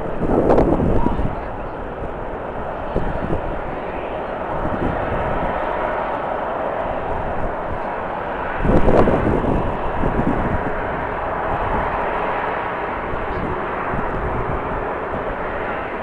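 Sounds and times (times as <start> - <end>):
jet airliner engine noise: 0.0 - 16.0
wind buffeting microphone: 0.0 - 16.0.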